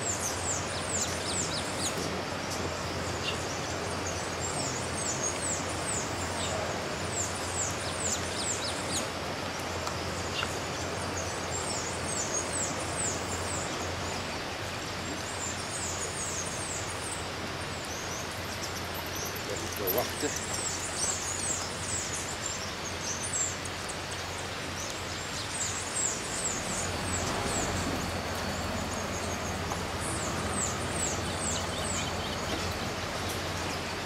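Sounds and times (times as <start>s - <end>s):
forest ambience hiss: 0.0s - 34.0s.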